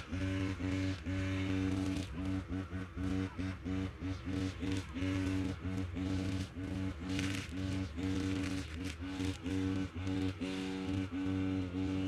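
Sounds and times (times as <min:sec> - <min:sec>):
low drone: 0:00.0 - 0:12.0.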